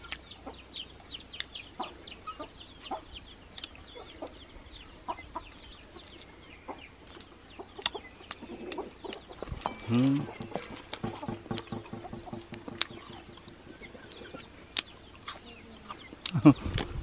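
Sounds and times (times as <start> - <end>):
chicks peeping: 0.0 - 17.0
chicken clucks: 1.5 - 3.2, 3.9 - 17.0.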